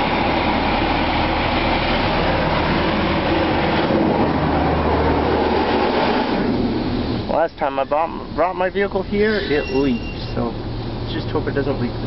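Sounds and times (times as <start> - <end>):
water spraying against a vehicle: 0.0 - 12.0.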